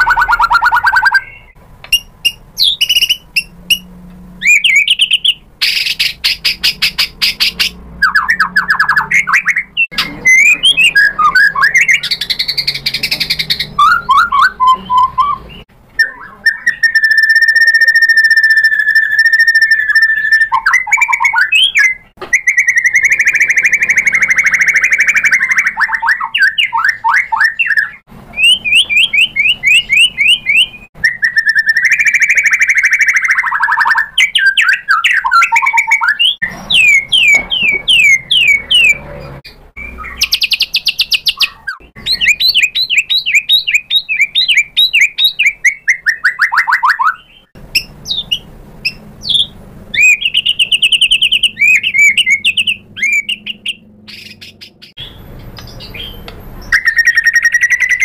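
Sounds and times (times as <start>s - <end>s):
songbird whistling and trilling: 0.0s - 58.0s.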